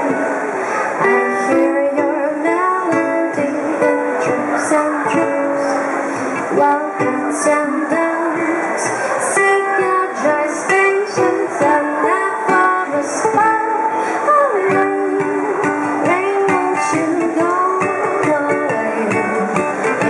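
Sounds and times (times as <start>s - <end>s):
person singing: 0.0s - 20.0s
ukulele strumming: 0.0s - 20.0s.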